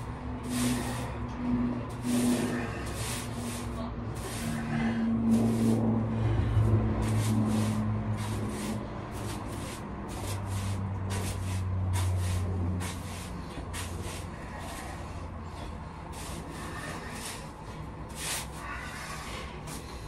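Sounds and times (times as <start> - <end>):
broom sweeping floor: 0.0 - 20.0
steady low hum: 0.0 - 20.0.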